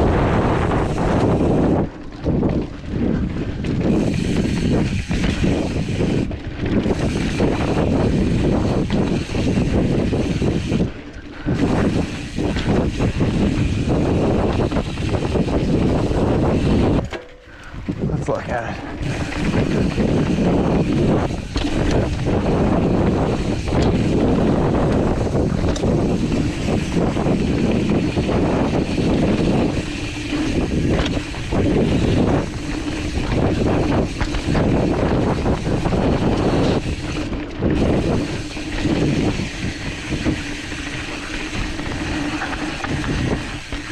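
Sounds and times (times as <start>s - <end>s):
bike rattling over bumps: 0.0s - 43.9s
tyres on dirt: 0.0s - 43.9s
wind buffeting microphone: 0.0s - 43.9s.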